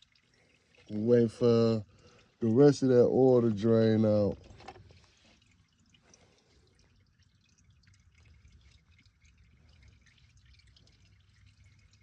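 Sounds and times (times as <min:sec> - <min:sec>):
oil dripping and trickling: 0:00.0 - 0:12.0.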